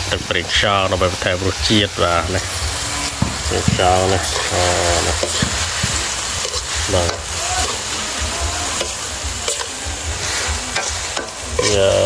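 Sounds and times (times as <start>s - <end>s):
food sizzling in a wok: 0.0s - 12.0s
metal spatula scraping a pan: 1.1s - 12.0s.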